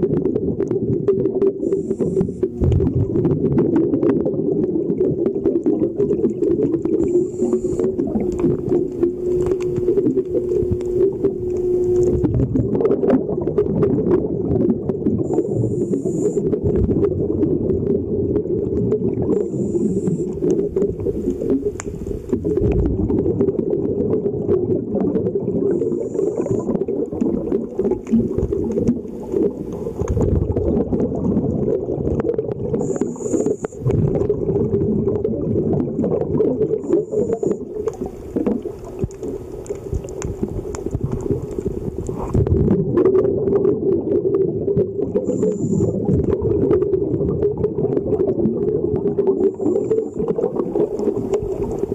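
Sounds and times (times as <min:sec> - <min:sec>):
regulator exhaust bubbles: 0:00.0 - 0:51.9.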